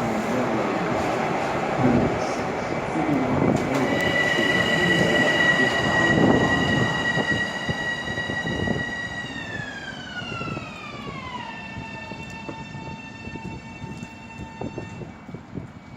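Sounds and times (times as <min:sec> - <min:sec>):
electric train whine: 0:00.0 - 0:15.9
train low rumble: 0:00.0 - 0:15.9.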